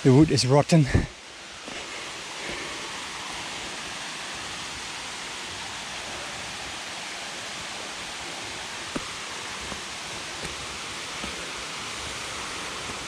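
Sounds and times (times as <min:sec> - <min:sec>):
waterfall rushing: 0:01.2 - 0:13.0.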